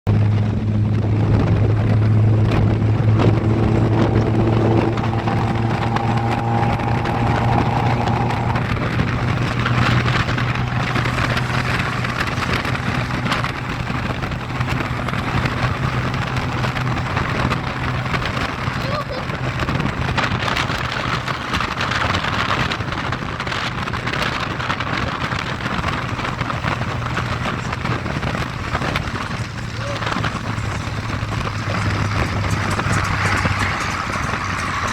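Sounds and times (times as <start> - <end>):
car engine drone: 0.0 - 34.9.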